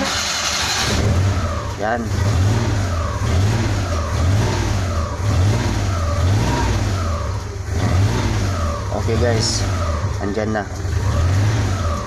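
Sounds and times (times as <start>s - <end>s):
engine revving in short blips: 0.0s - 12.0s.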